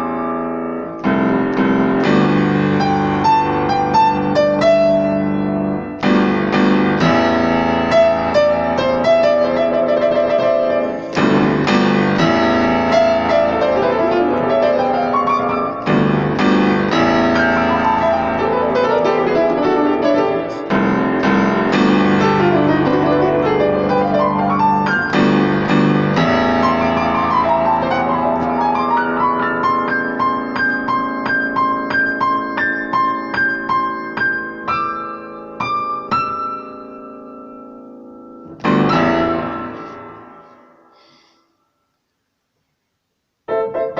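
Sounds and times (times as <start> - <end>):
piano music: 0.0 - 41.2, 43.4 - 43.9.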